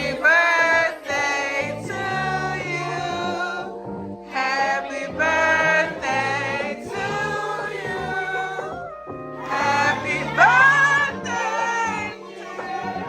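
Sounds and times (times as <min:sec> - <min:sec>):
several voices singing: 0:00.0 - 0:13.0
sustained low bass notes: 0:01.5 - 0:04.3, 0:05.1 - 0:13.0.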